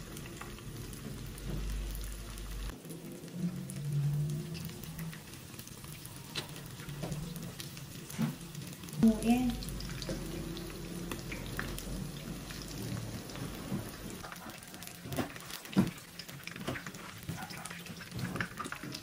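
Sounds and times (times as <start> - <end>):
crackling sizzle of deep-frying: 0.0 - 19.0.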